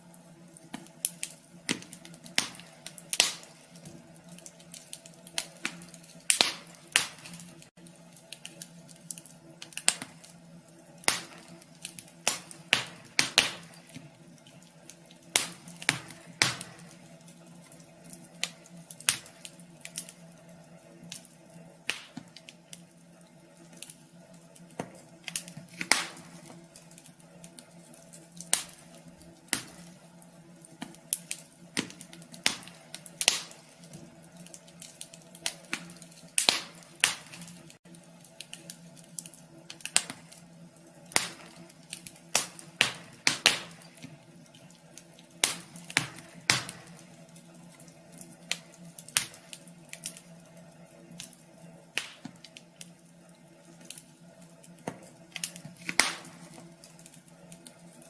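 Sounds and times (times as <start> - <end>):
faint steady hum: 0.0 - 58.0
wood fire crackling: 0.0 - 58.0.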